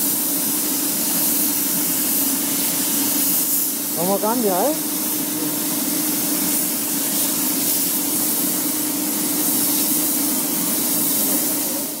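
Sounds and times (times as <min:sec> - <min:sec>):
spray gun hissing: 0:00.0 - 0:12.0.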